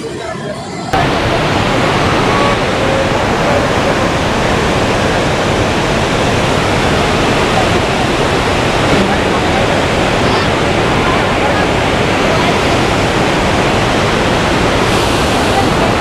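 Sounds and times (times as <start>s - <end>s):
waterfall thundering: 1.0s - 16.0s.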